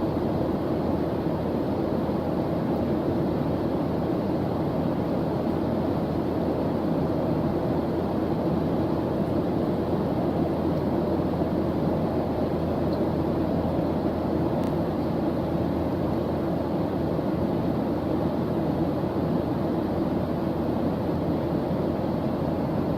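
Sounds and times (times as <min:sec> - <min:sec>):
white noise rumble: 0:00.0 - 0:22.9.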